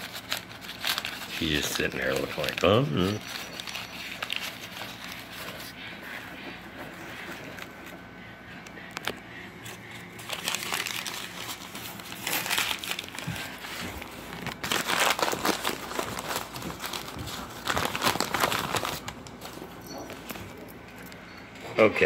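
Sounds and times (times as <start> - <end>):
packing paper crumpling: 0.0 - 21.2.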